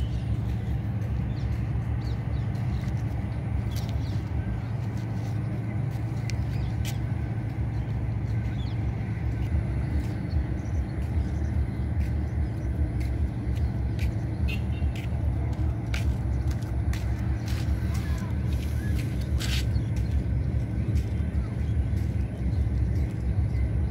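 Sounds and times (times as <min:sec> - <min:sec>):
low rumble: 0:00.0 - 0:23.9.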